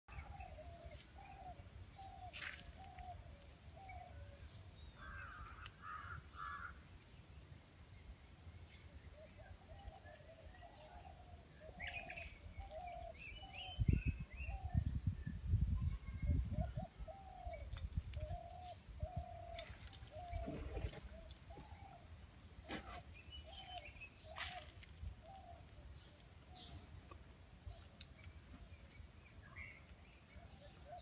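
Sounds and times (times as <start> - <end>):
birds calling: 0.1 - 6.8, 8.7 - 14.8, 16.6 - 31.0.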